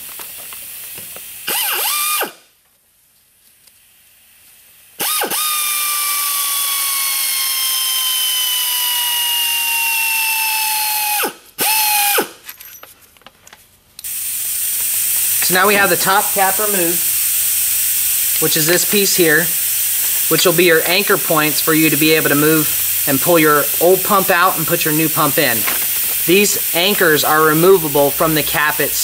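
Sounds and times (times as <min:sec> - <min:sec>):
pneumatic air ratchet spinning: 0:00.7 - 0:02.5, 0:05.0 - 0:12.5, 0:14.0 - 0:29.0.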